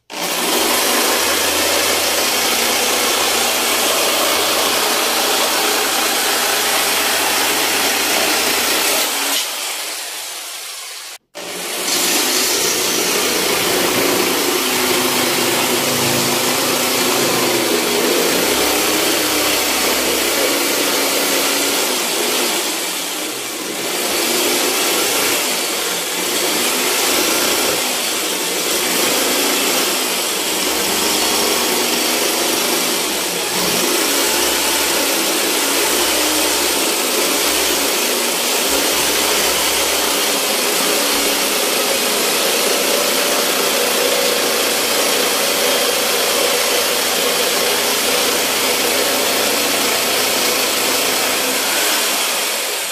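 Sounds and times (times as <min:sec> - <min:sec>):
jigsaw cutting wood: 0:00.0 - 0:52.9.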